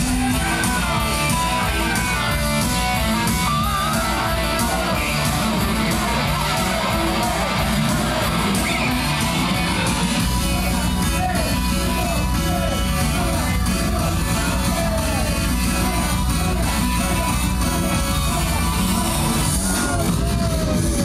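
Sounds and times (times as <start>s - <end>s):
pop-rock song: 0.0s - 21.0s
strummed electric guitar: 0.0s - 21.0s
person singing: 3.0s - 21.0s.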